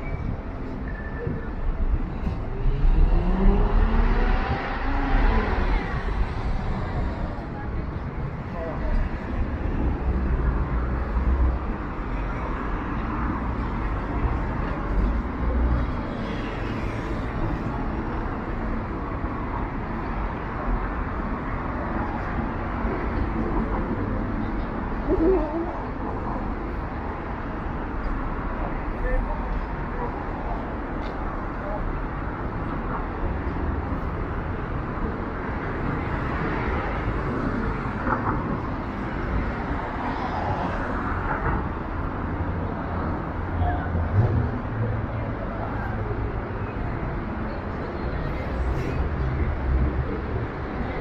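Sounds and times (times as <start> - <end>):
outdoor noise: 0.0 - 51.0
traffic rumble: 0.0 - 51.0.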